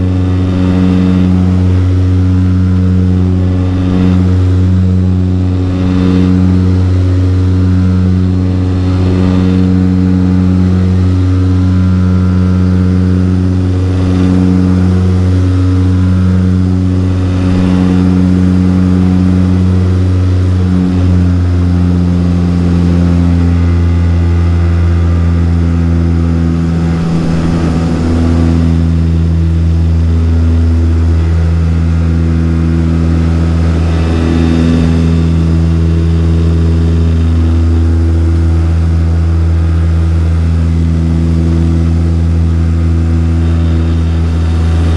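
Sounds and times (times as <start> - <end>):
turboprop engine droning: 0.0 - 44.9.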